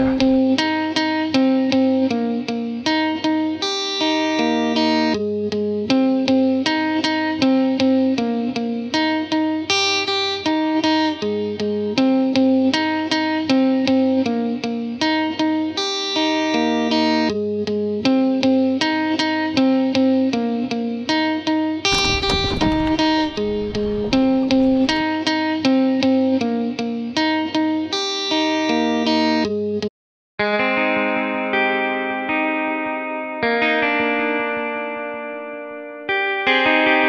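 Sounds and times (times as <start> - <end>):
plucked guitar melody: 0.0 - 37.0.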